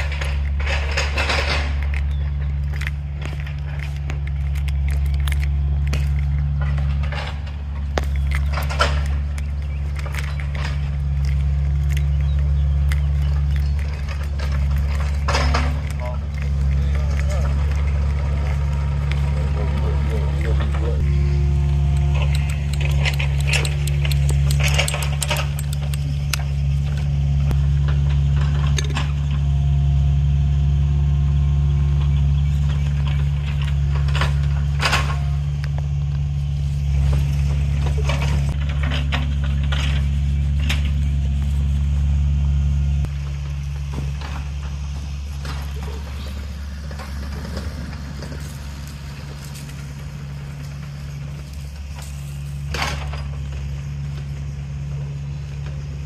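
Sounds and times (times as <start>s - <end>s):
metallic clanks and rattles: 0.0s - 29.6s, 32.0s - 56.0s
engine running: 0.0s - 56.0s.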